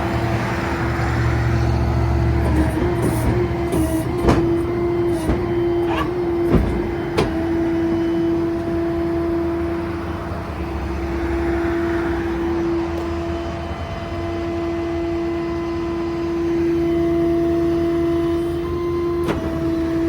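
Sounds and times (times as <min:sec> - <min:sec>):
truck running with steady whine: 0:00.0 - 0:20.0.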